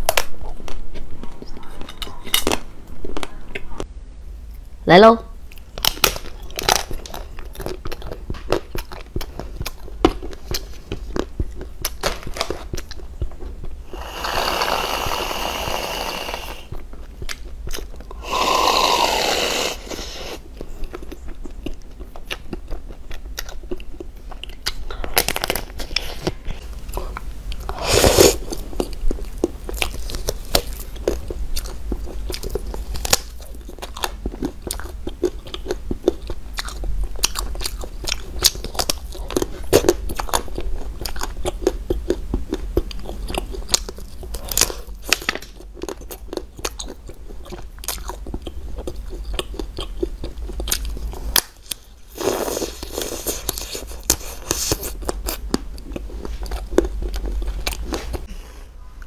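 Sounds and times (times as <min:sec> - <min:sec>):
crunchy chewing of hard sweets: 0:05.4 - 0:58.3.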